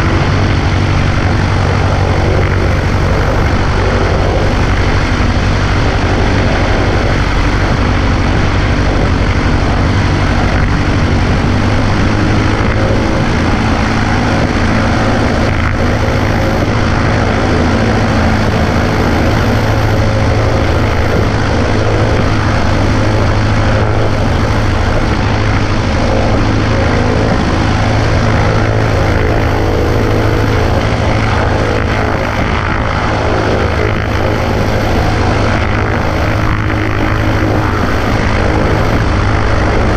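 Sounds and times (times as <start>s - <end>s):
propeller plane engine droning: 0.0s - 39.9s
wind rush: 0.0s - 39.9s.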